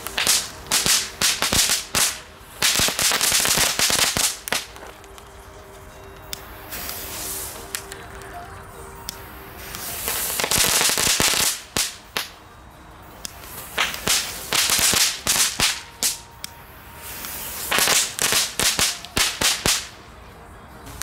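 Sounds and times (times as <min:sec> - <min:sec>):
fireworks crackling pops: 0:00.0 - 0:21.0
fireworks hissing sparks: 0:00.0 - 0:21.0.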